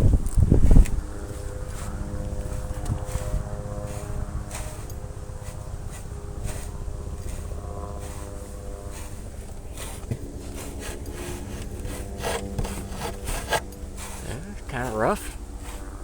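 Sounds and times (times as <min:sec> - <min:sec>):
low steady hum: 0:00.0 - 0:16.0
dog scraping against truck: 0:01.6 - 0:16.0.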